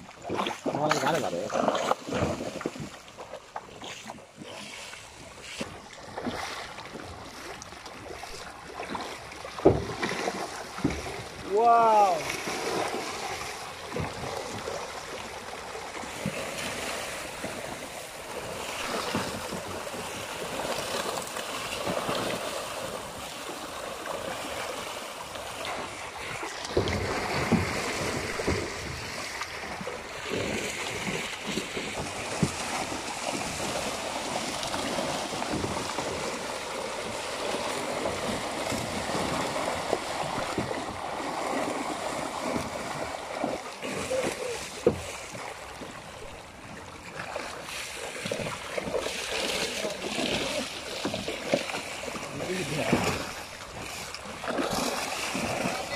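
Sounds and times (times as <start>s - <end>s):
fish thrashing and splashing: 0.0s - 46.4s, 54.2s - 55.9s
water churning: 0.0s - 55.9s.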